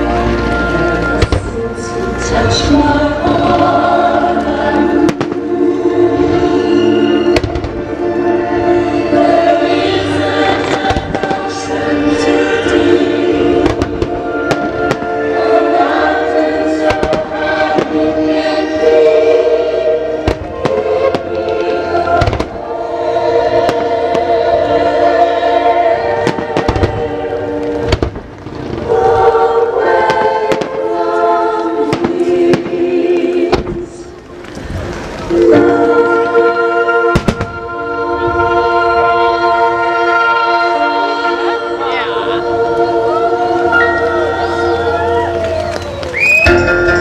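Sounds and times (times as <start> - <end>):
musical theatre singing over loudspeakers: 0.0 - 47.0.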